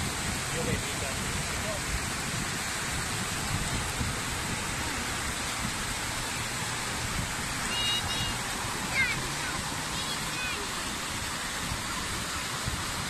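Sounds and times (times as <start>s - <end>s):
waves breaking on shore: 0.0s - 13.0s.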